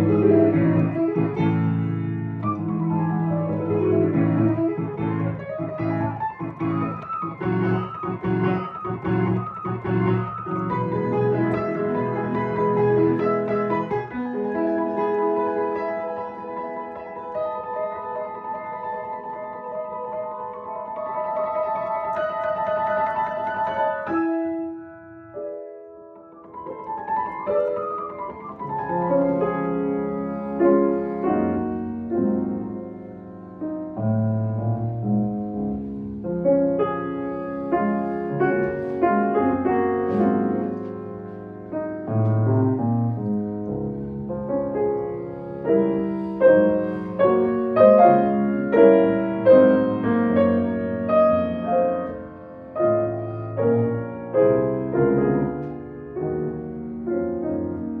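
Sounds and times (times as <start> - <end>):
slow solo piano piece: 0.0 - 58.0.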